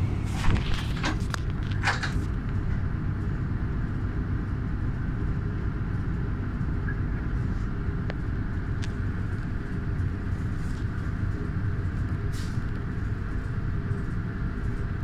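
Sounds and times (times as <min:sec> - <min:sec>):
train coaches rolling slowly: 0:00.0 - 0:15.0.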